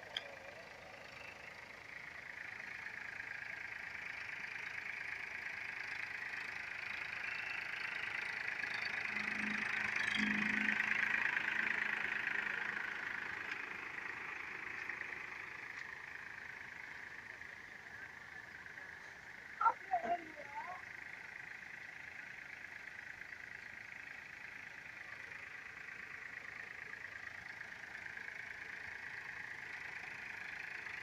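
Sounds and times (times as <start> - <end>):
tractor engine driving past: 0.0 - 31.0.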